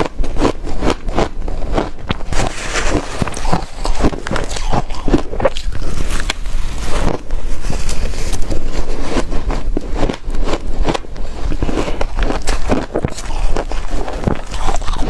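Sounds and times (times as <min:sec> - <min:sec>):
crunching and chewing ice: 0:00.0 - 0:15.0.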